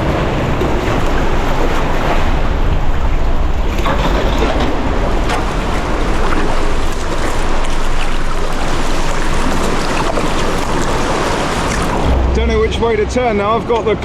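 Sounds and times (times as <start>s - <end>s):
sea water washing: 0.0s - 14.0s
wind on microphone: 0.0s - 14.0s.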